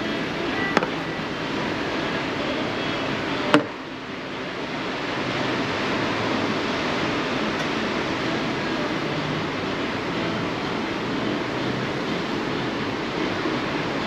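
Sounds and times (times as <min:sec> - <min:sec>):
cafe background rushing noise: 0:00.0 - 0:14.0.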